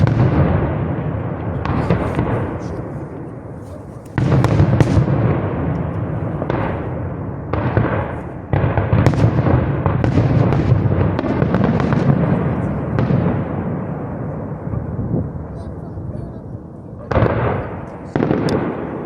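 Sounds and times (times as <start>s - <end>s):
firework sharp cracks: 0.0s - 15.6s, 17.1s - 19.0s
firework shells booming: 0.0s - 15.8s, 16.6s - 19.0s.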